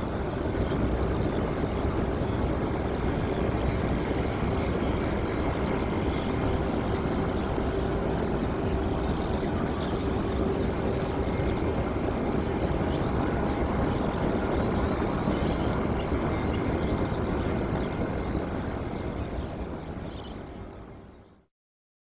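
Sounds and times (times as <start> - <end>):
steady engine tones: 0.0 - 21.1
jet engines rumbling and roaring: 0.0 - 21.2.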